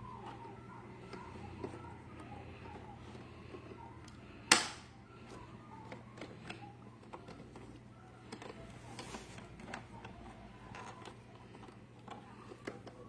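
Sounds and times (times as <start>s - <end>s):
hands fumbling with plastic parts: 0.0s - 13.0s.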